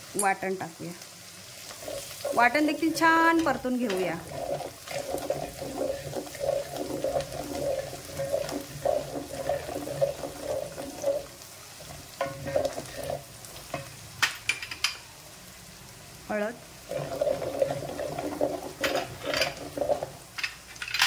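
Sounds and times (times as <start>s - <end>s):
paste sizzling in oil: 0.0s - 20.7s
spoon stirring and scraping pan: 1.6s - 15.0s, 16.9s - 20.6s.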